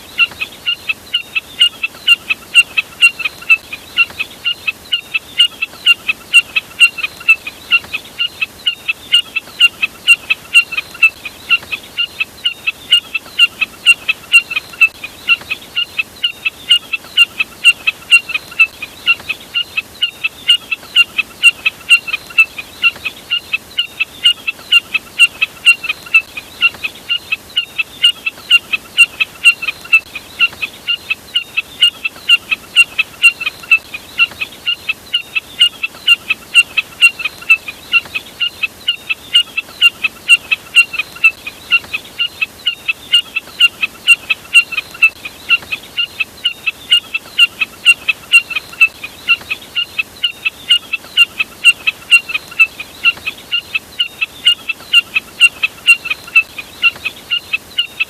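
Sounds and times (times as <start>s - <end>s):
jack snipe calls: 0.1s - 58.0s.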